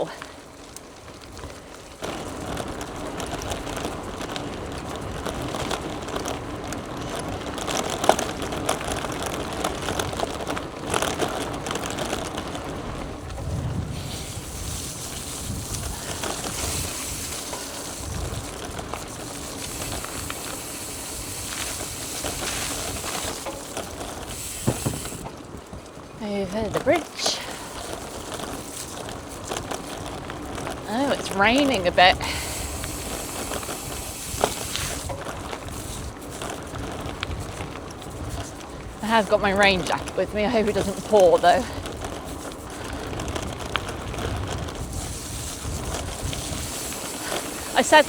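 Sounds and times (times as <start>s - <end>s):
bike tyres rolling on gravel: 0.0s - 48.0s
wind noise on microphone: 1.3s - 48.0s.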